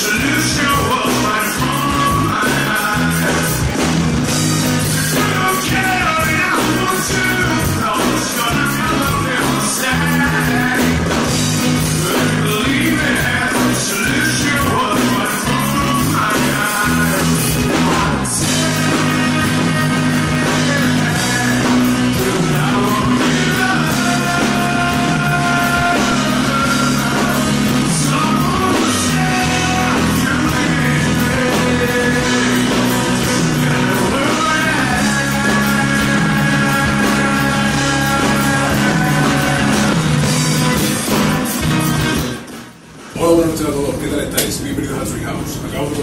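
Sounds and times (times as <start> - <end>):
man singing: 0.0 - 3.9, 4.6 - 41.0
drums: 0.0 - 46.0
electric bass: 0.0 - 46.0.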